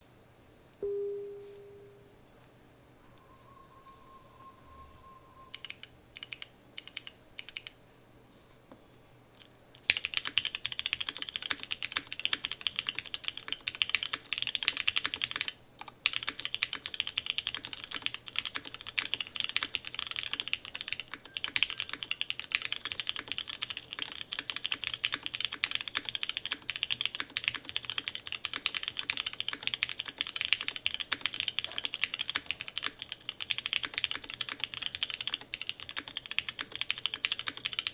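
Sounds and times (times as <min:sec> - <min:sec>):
mechanical keyboard typing: 0:05.5 - 0:07.8, 0:09.8 - 0:37.9.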